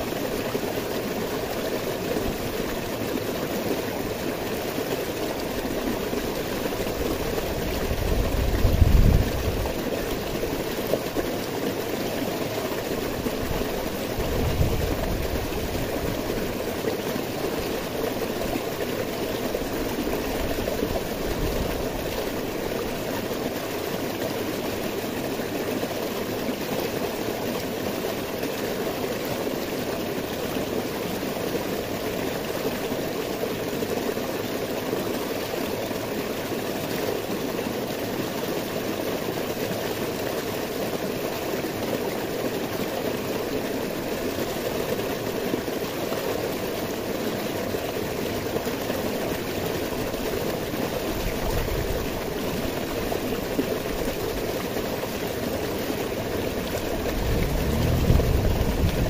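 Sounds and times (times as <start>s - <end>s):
water splashing over boulders: 0.0s - 59.0s.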